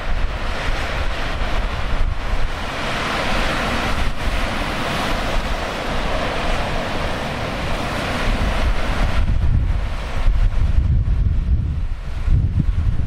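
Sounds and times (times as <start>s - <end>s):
heavy surf roaring: 0.0s - 13.0s
wind buffeting microphone: 0.0s - 13.0s.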